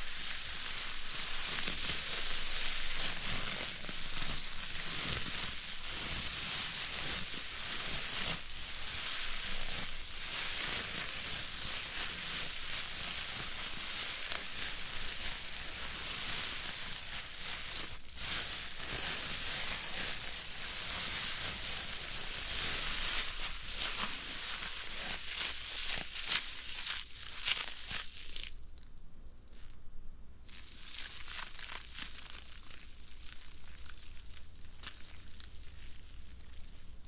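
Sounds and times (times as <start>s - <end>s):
bubble wrap popping: 0.0s - 28.9s, 30.5s - 37.0s.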